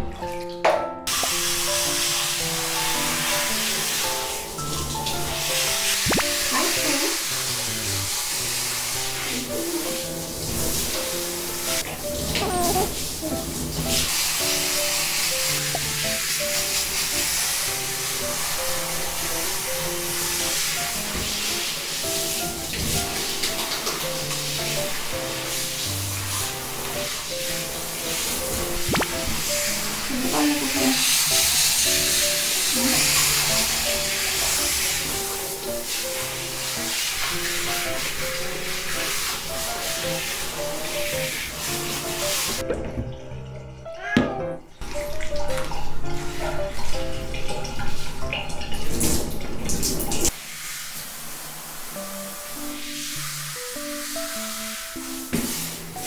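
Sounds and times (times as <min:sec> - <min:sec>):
light music with plucked notes: 0:00.0 - 0:49.6, 0:52.2 - 0:56.0
water spraying from shower head: 0:01.1 - 0:42.7, 0:44.8 - 0:56.0.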